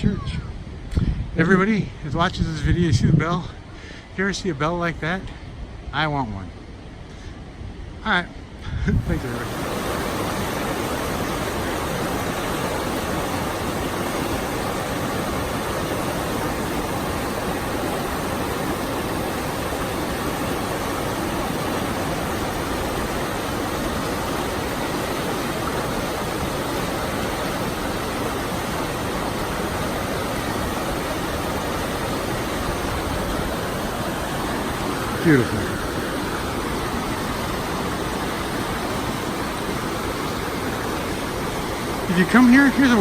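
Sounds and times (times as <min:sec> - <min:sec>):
waterfalls rushing: 0:08.4 - 0:43.0.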